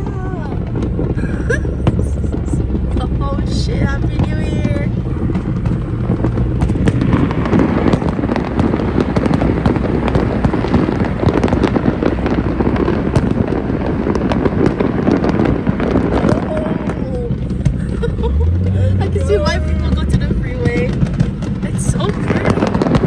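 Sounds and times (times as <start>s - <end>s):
car road rumble: 0.0s - 23.0s
fireworks and firecrackers popping: 0.0s - 23.0s.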